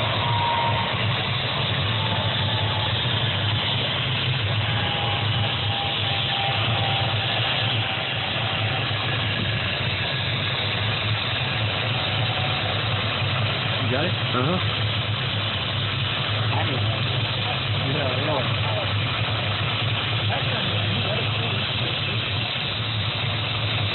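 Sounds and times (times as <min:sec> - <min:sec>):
model helicopter engine running: 0:00.0 - 0:23.9.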